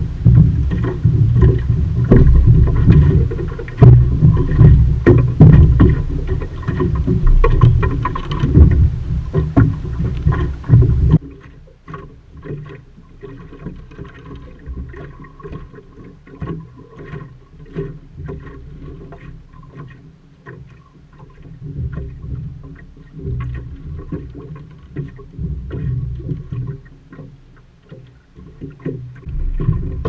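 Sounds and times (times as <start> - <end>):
water lapping: 0.0 - 30.0
wind and water rumbling: 0.0 - 30.0.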